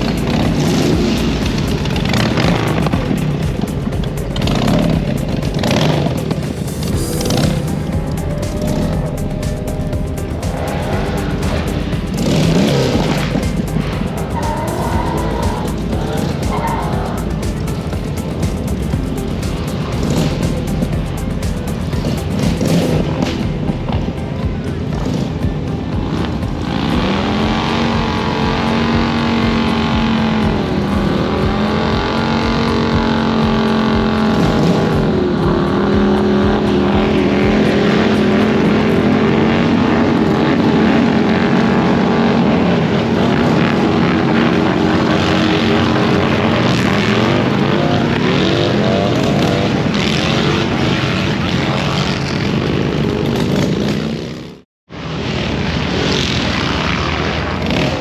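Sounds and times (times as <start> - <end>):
car engines revving high: 0.0 - 58.0.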